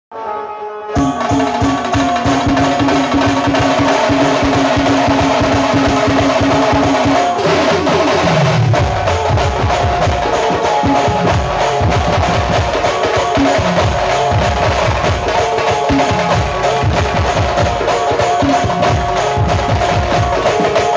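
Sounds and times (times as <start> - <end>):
booming bass drum hits: 1.0 - 17.9
held tone: 1.0 - 19.6.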